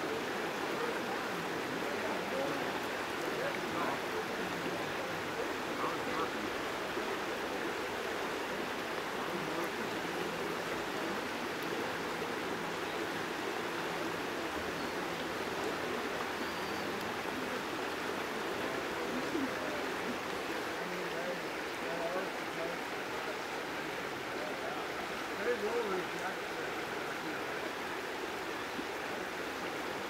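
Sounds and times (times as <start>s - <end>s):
river current rushing: 0.0s - 30.0s.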